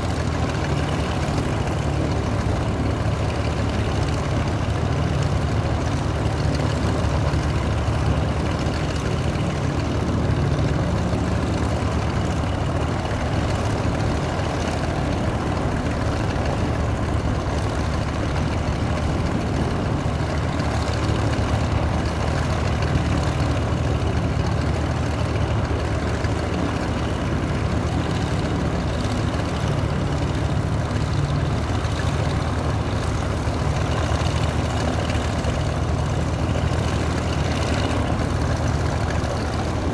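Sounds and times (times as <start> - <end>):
twin piston aircraft engines droning: 0.0 - 39.9.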